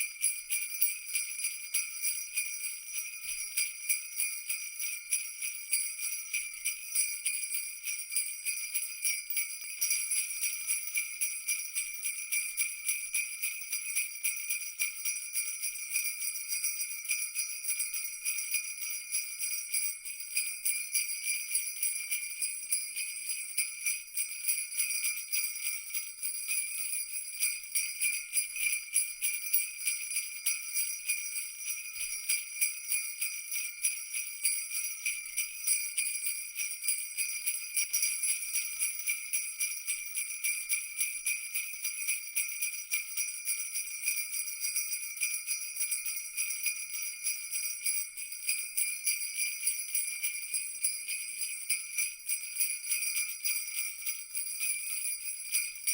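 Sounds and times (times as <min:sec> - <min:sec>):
jingle bells shaken: 0:00.0 - 0:55.9.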